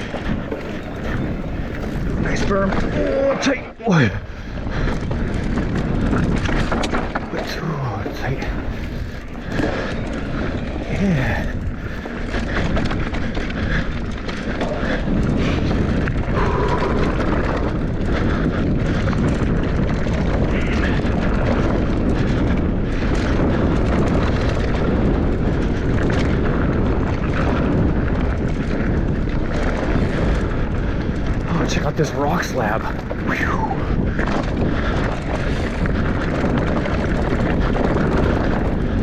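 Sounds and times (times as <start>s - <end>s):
bike rattling over bumps: 0.0s - 39.0s
bike tyre noise on dirt: 0.0s - 39.0s
wind buffeting microphone: 0.0s - 39.0s.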